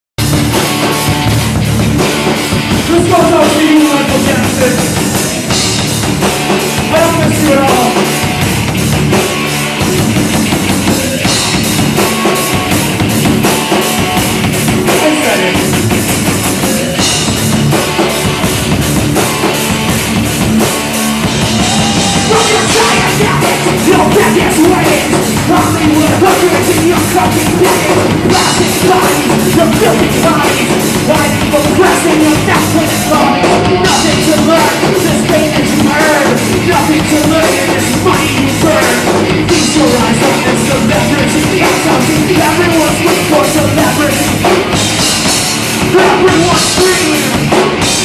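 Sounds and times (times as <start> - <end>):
electric guitars: 0.2 - 48.0
pounding drum kit: 0.2 - 48.0.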